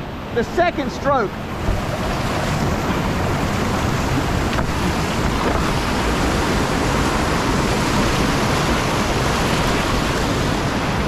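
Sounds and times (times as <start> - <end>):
whitewater rushing in river rapid: 0.0 - 11.0.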